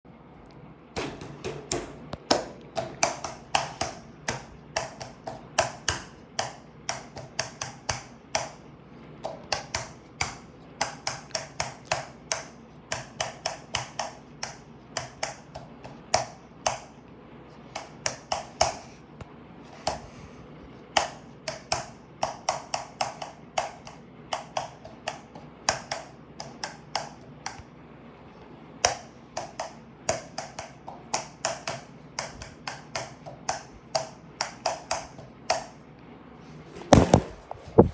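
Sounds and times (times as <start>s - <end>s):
rapid taps on a fan: 1.0s - 27.8s, 28.8s - 35.9s, 36.8s - 37.9s.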